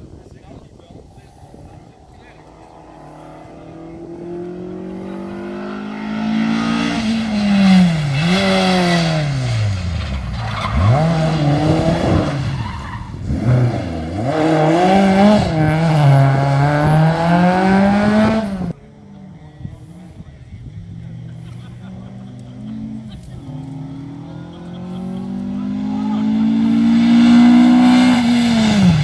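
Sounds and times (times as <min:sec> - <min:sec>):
rally car engine at full throttle: 0:00.0 - 0:29.0.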